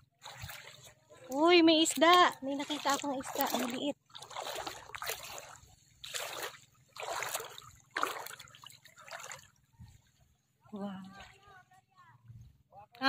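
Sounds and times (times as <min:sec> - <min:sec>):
seawater splashing and sloshing: 0:00.0 - 0:12.1.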